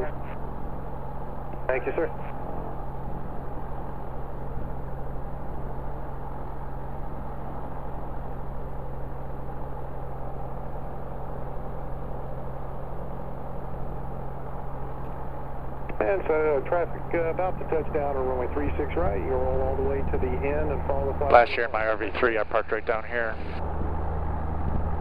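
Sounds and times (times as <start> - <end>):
airplane engine idling drone: 0.0 - 25.0.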